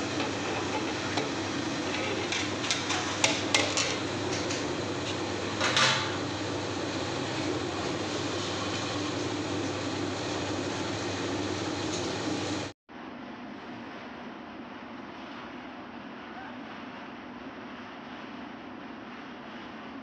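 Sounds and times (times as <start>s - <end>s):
pellet stove fan and fire rushing: 0.0s - 20.0s.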